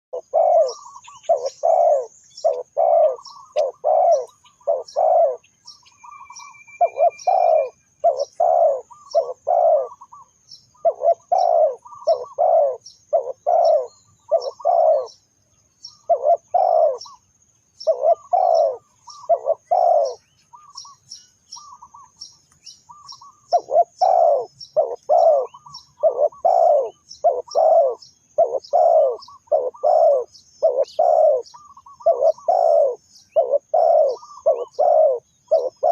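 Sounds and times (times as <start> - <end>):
dove cooing: 0.1 - 15.2, 15.9 - 17.2, 17.8 - 21.0, 22.9 - 35.9.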